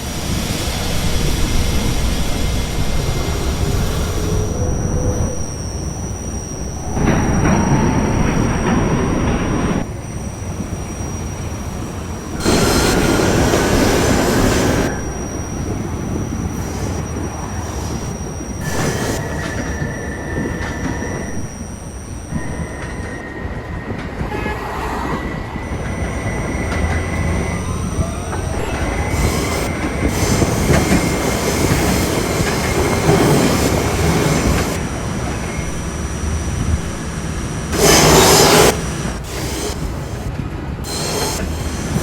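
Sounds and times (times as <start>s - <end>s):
thin wheel squeal: 0.0s - 11.3s, 12.3s - 34.8s, 37.7s - 42.0s
subway train rumble and rattle: 0.0s - 42.0s.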